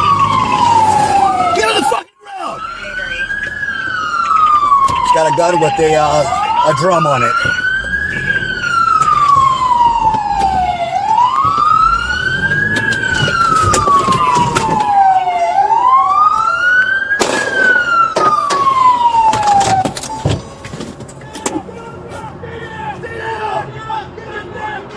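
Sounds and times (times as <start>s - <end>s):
police siren wailing: 0.0s - 24.9s.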